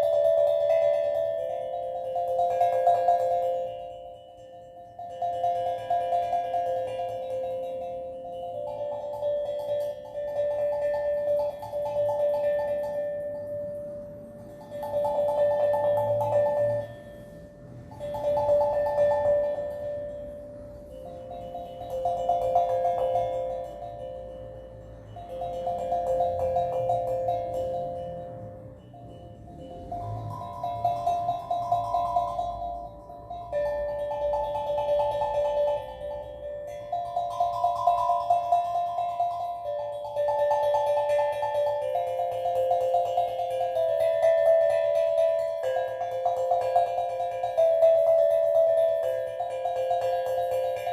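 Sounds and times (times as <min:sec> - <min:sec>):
steel drum improvisation: 0:00.0 - 0:50.9.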